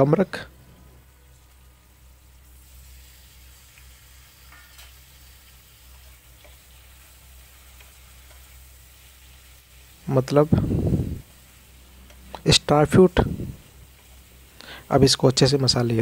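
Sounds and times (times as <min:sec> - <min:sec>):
fruit slices sizzling in a pan: 0:00.7 - 0:16.0.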